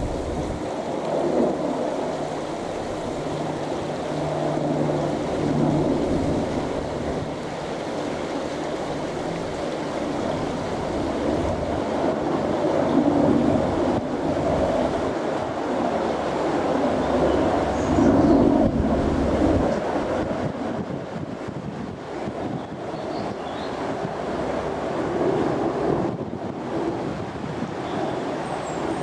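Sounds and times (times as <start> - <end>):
helicopter flying past: 0.0 - 29.0.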